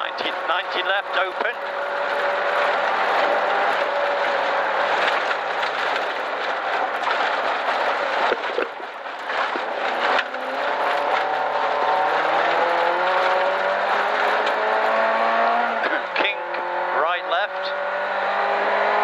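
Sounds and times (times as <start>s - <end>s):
gravel rushing under tyres: 0.0s - 18.3s
rally car engine: 0.0s - 19.0s.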